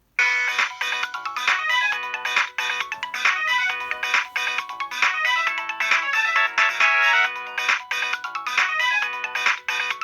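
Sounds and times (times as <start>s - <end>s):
polyphonic phone ringtone: 0.2s - 10.0s.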